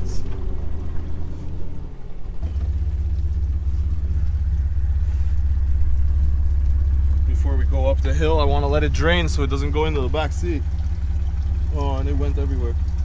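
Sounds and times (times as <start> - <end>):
engine rumbling through water: 0.0 - 13.0.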